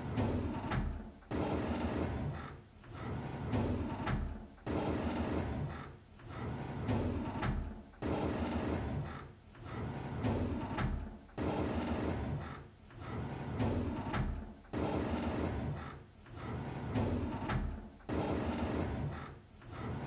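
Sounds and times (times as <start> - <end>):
drawer sliding on runners: 0.0 - 20.0.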